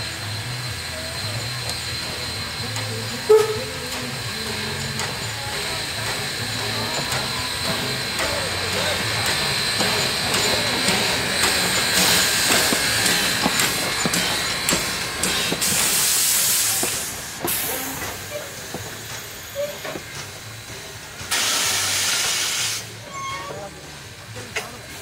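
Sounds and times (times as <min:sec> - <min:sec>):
steam locomotive hissing steam: 0:00.0 - 0:25.0.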